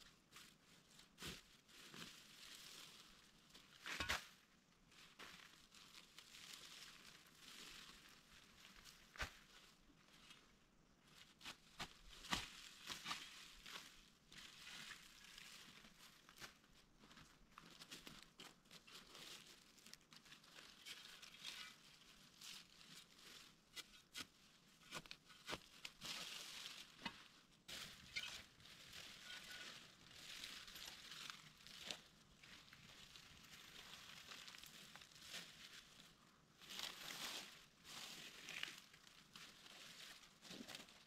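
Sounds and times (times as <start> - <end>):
faint crinkling and crackling: 0.0 - 41.0.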